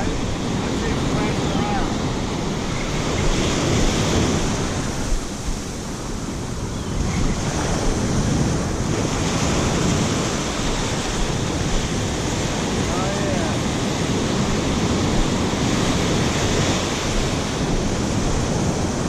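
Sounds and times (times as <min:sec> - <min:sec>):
ocean surf washing: 0:00.0 - 0:19.0
wind buffeting microphone: 0:00.0 - 0:19.0.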